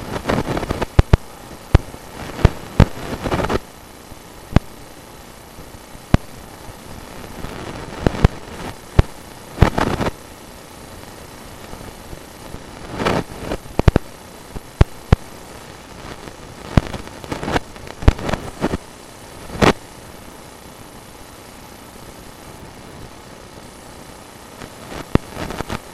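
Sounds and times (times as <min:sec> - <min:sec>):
steady hiss: 0:00.0 - 0:25.9.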